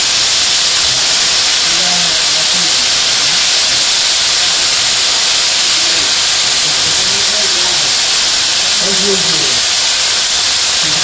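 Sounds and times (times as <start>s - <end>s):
vegetables sizzling in hot pot: 0.0s - 11.0s.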